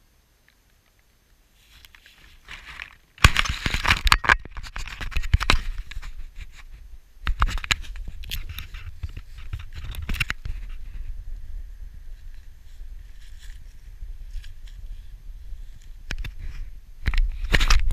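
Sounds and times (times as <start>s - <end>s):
grass rustling: 0.5s - 17.9s.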